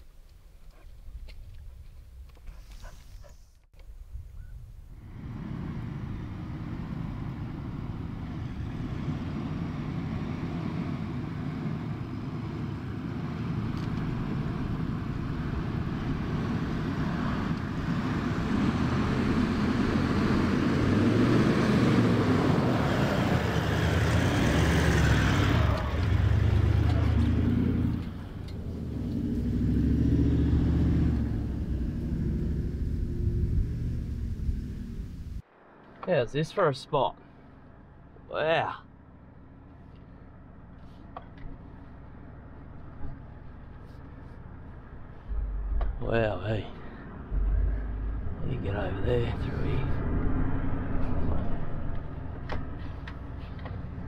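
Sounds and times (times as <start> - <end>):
tyre and road noise: 0.0 - 54.0
diesel engine running: 5.0 - 35.4, 38.9 - 54.0.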